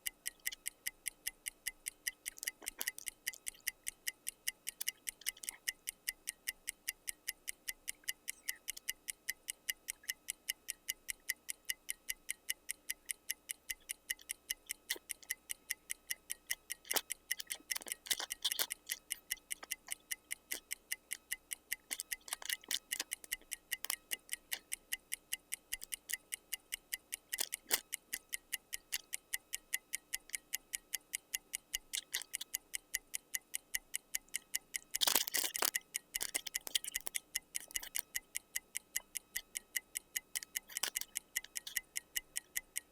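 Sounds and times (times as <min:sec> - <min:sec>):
fast even ticking: 0:00.0 - 0:42.9
louder irregular clicks: 0:00.0 - 0:42.9.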